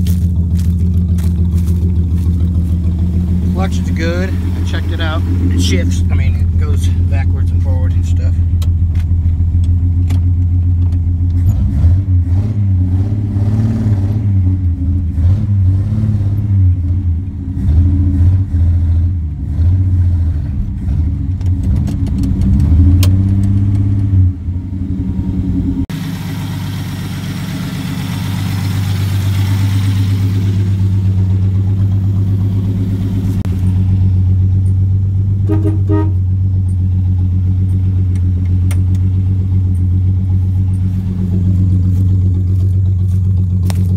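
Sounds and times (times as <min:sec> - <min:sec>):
car engine revving and idling: 0:00.0 - 0:43.9.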